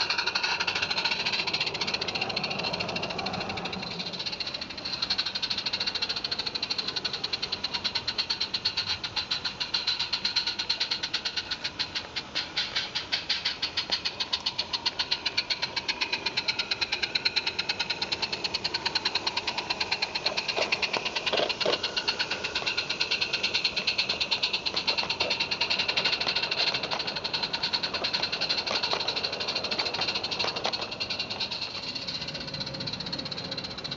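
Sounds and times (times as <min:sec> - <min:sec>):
small steam locomotive chuffing: 0:00.0 - 0:33.9.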